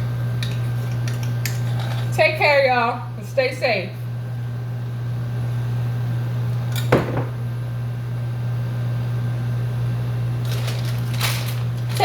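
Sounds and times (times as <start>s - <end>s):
electrical appliance humming: 0.0s - 12.0s.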